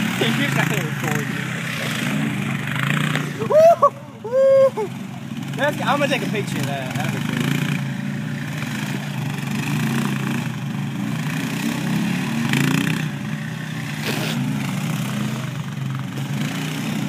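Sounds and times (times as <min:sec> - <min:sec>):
quad bike engines under load: 0:00.0 - 0:17.0.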